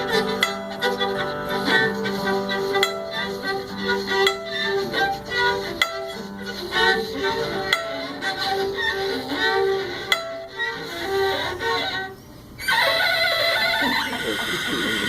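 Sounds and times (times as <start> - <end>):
fiddle imitating a steam train: 0.0 - 15.0.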